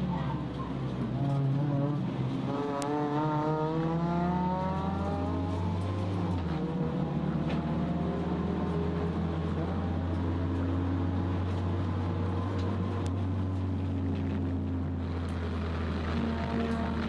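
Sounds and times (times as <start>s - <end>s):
race car engine from cabin: 0.0s - 17.0s.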